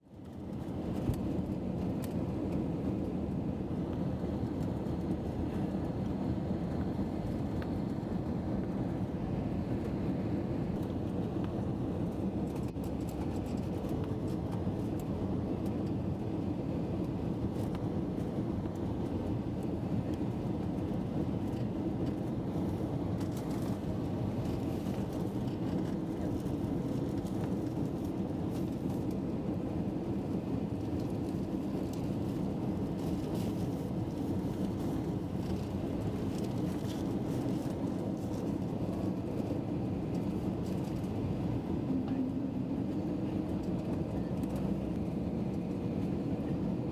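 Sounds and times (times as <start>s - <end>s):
airliner rumble: 0.1s - 46.9s.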